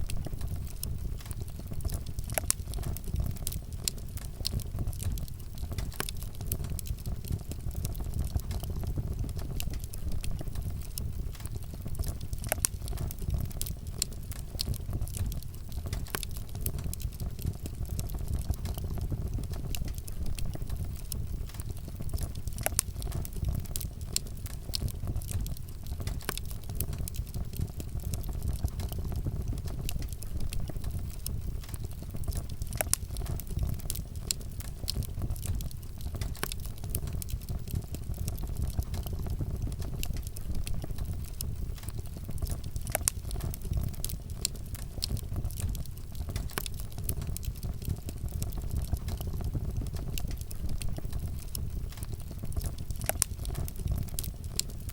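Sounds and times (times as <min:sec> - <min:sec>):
fire crackles and pops: 0:00.0 - 0:54.9
wood fire rumble: 0:00.0 - 0:54.9.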